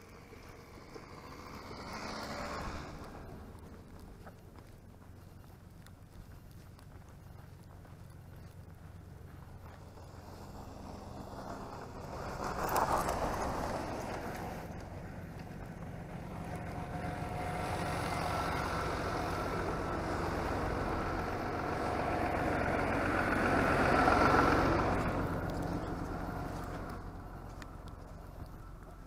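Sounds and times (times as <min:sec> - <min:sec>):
vehicle passing on snowy road: 0:00.0 - 0:29.0.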